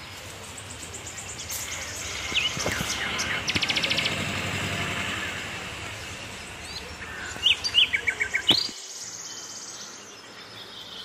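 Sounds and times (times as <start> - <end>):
small birds chirping: 0.0 - 11.0
steady high background hiss: 0.0 - 11.0.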